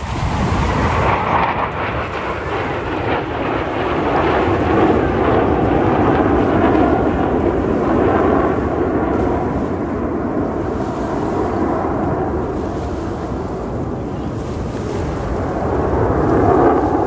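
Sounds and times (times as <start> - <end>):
jet aircraft roar: 0.0 - 17.0
wind rumble on microphone: 0.0 - 17.0.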